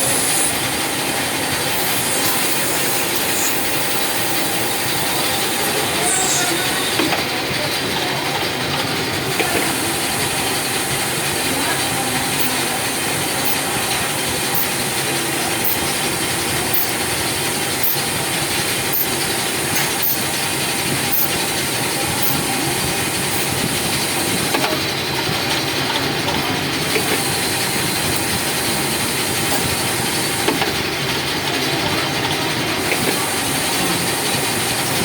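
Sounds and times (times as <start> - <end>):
cnc machine running: 0.0 - 35.0.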